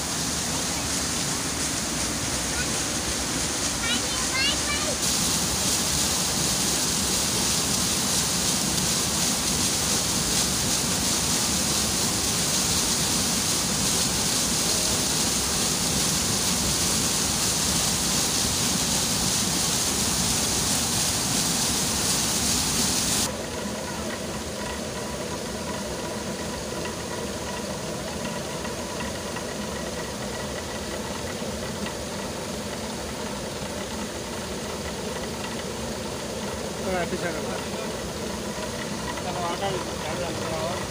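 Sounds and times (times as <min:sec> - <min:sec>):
mill running hum: 0:00.0 - 0:40.9
water rushing in stone channel: 0:00.0 - 0:40.9.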